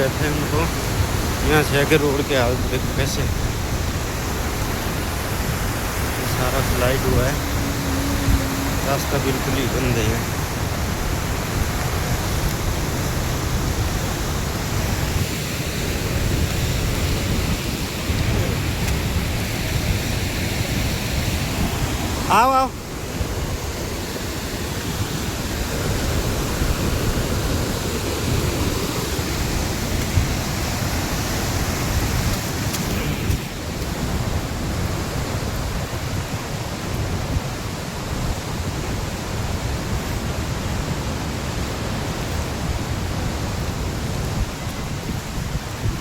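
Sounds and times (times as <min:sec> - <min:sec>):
rushing flood river roar: 0:00.0 - 0:46.0.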